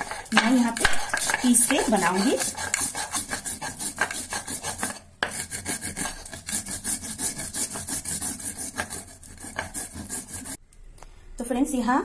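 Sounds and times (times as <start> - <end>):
stone muller rasping on grinding slab: 0.0 - 10.6.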